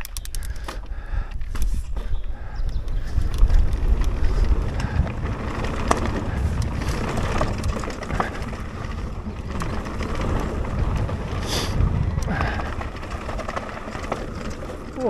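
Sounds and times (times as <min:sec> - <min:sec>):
bike clicks and rattles: 0:00.0 - 0:15.0
rumble of bike tyres on dirt: 0:00.0 - 0:15.0
wind buffeting microphone: 0:00.1 - 0:15.0.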